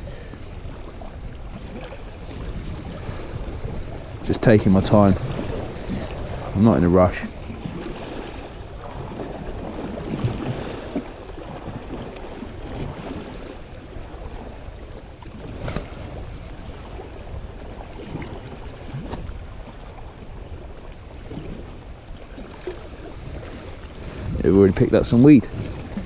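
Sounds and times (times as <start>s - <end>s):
waves splashing over rocks: 0.0s - 26.0s
wind buffeting microphone: 0.0s - 26.0s.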